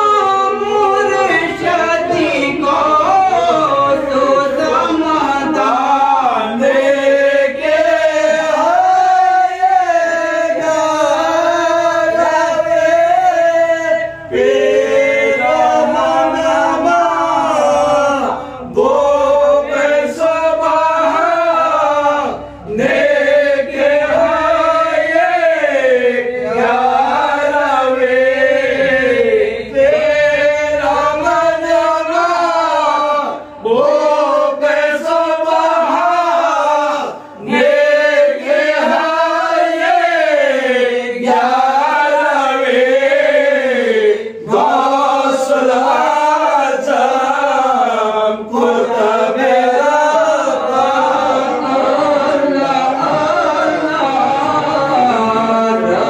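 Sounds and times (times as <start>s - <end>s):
men chanting devotional recitation: 0.0s - 56.0s.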